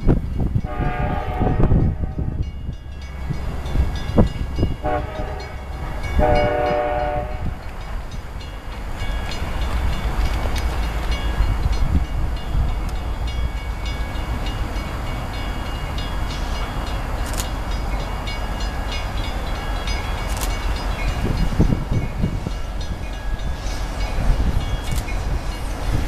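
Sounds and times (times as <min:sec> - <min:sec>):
diesel locomotive rumble: 0:00.0 - 0:26.0.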